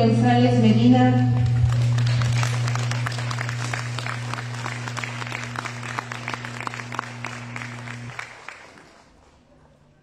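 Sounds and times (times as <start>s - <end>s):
steady low hum: 0.0s - 8.5s
audience applauding: 1.4s - 9.6s.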